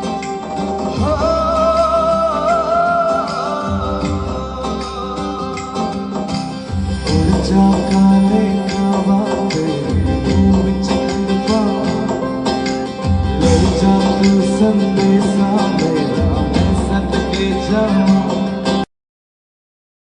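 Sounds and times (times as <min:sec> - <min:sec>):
music with heavy bass and beat: 0:00.0 - 0:18.8.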